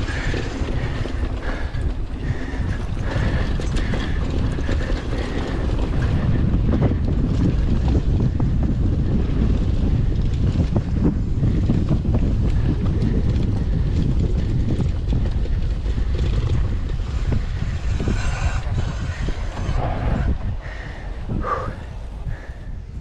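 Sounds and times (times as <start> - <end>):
bike freewheel ratcheting: 0.0 - 19.8
bike rattling over bumps: 0.0 - 23.0
wind buffeting microphone: 0.0 - 23.0.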